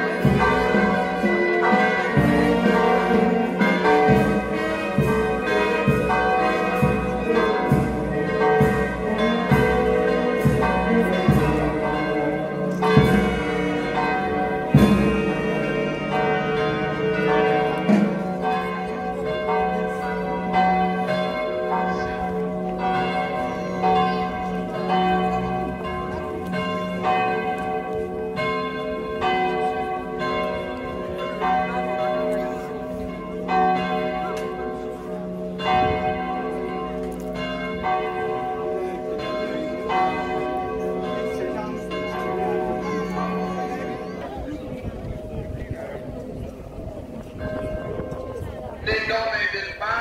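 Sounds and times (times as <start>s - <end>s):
church bells ringing: 0.0s - 50.0s.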